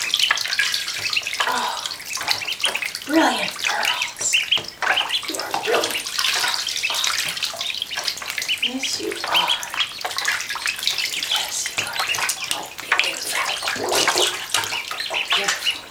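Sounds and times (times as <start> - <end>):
ducklings peeping: 0.0 - 15.9
ducklings splashing in water: 0.0 - 15.9.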